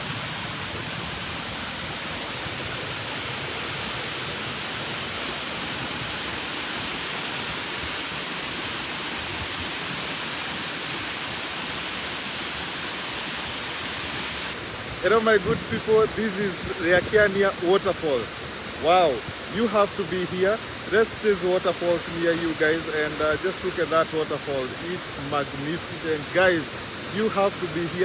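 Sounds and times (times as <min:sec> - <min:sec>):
waterfall rushing onto rock: 0:00.0 - 0:28.0.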